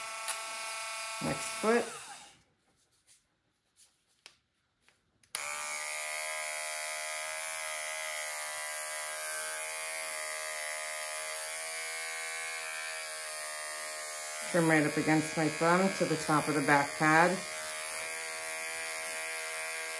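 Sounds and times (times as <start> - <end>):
pet clipper buzzing: 0.0 - 2.4, 5.2 - 19.9.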